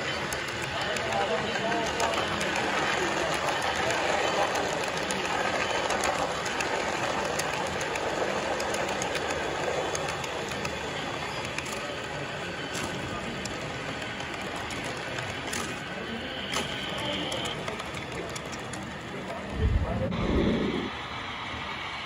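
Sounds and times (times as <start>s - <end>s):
model train wheels rumbling: 0.0s - 22.0s.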